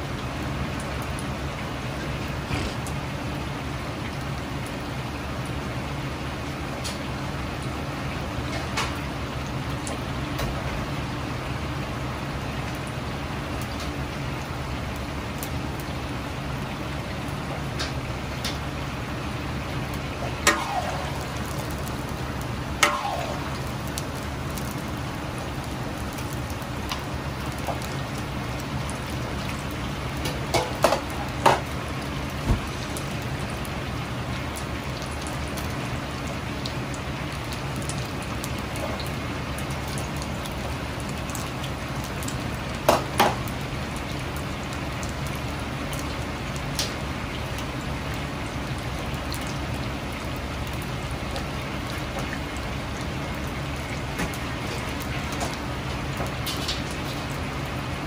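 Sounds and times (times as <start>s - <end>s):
chicken deep-frying in oil: 0.0s - 58.0s.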